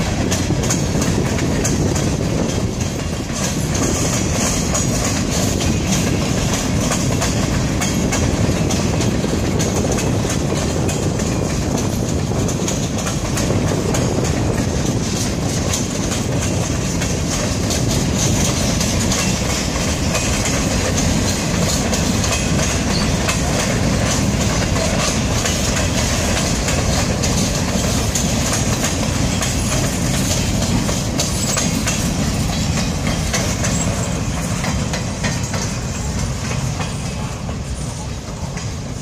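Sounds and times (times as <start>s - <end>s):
freight train wheels rumbling: 0.0s - 39.0s
wheels knocking on rails: 0.0s - 39.0s.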